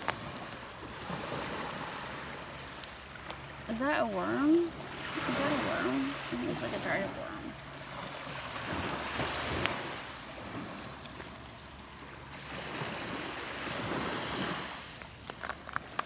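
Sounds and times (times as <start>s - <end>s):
small waves washing ashore: 0.0s - 16.0s.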